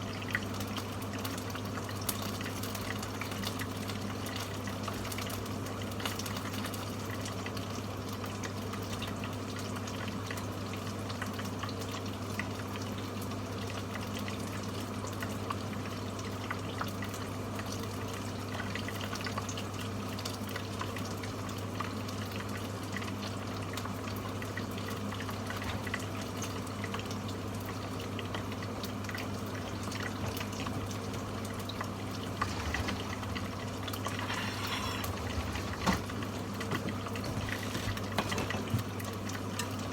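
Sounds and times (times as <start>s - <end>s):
oil crackling sizzle: 0.0s - 39.9s.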